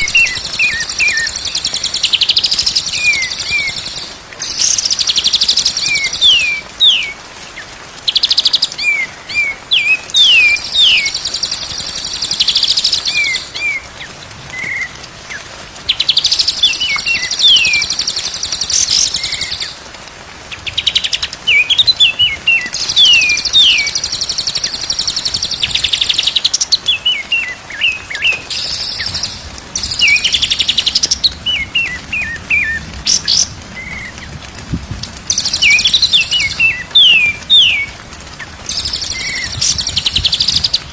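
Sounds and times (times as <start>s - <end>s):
bird singing: 0.0s - 7.2s, 8.1s - 13.8s, 16.0s - 19.8s, 20.7s - 34.1s, 35.4s - 38.0s, 38.7s - 40.9s.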